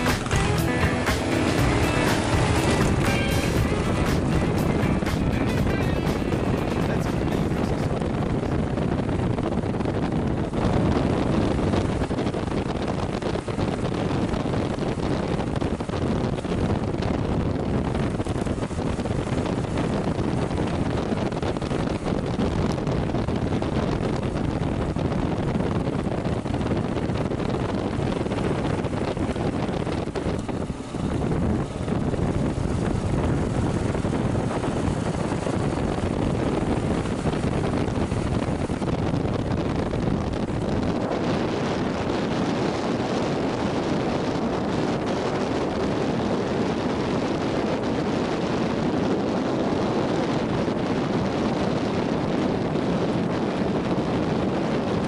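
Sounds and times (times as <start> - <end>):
motorcycle engine running: 0.0 - 49.8
wind rush on microphone: 0.0 - 55.0.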